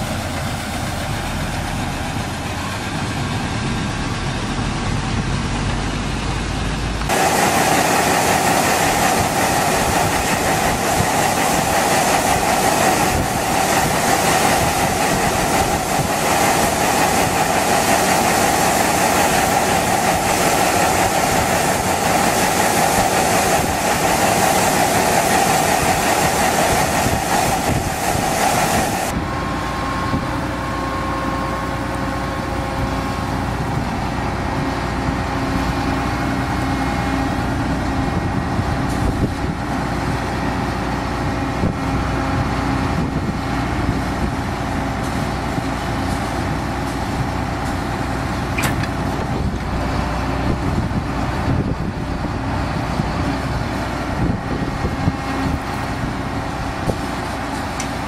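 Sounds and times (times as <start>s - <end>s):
combine engine humming: 0.0s - 58.0s
grain machinery rushing: 0.0s - 58.0s.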